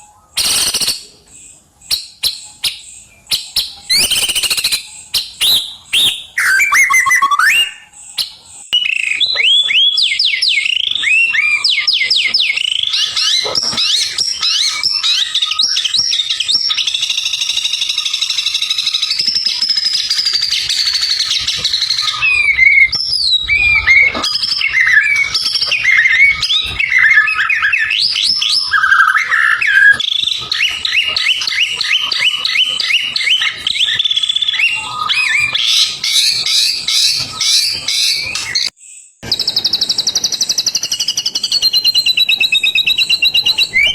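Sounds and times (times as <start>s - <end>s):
bird singing whistled notes: 0.0s - 43.9s.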